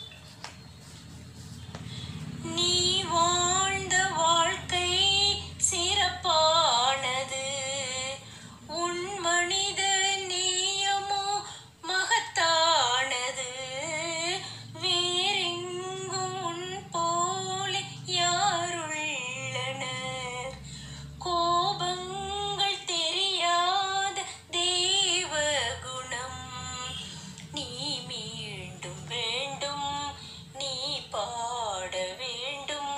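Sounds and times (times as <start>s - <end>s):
woman singing: 2.4s - 32.9s.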